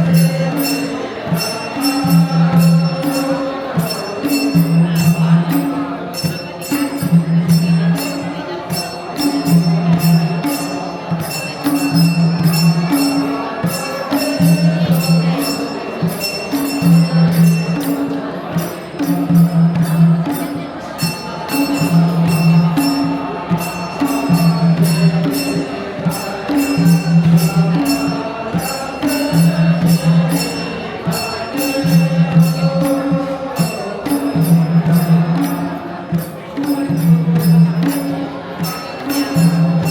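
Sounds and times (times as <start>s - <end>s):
voices singing: 0.0s - 39.9s.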